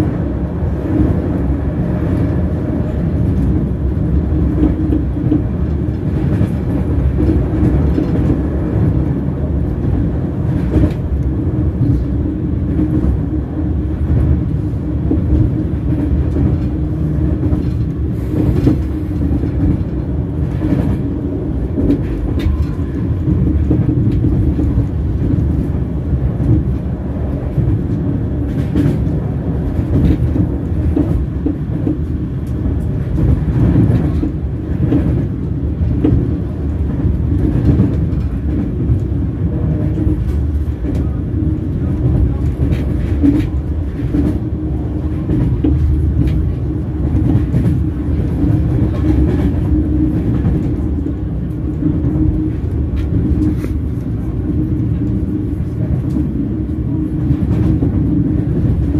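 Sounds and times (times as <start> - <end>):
train wheels on rails: 0.0 - 58.9.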